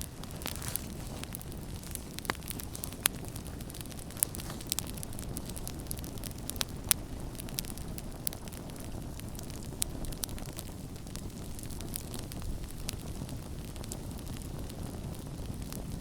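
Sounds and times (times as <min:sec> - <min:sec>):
campfire pops and snaps: 0:00.0 - 0:16.0.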